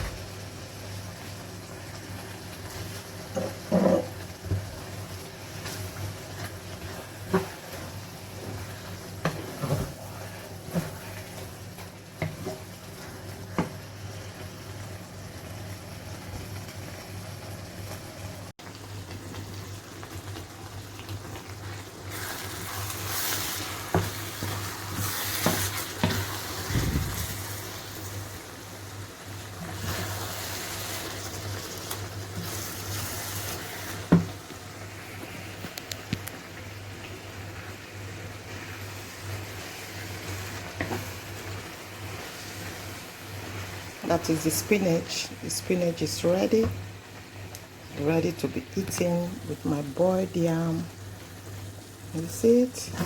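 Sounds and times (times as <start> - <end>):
stew sizzling in a pot: 0.0 - 53.0.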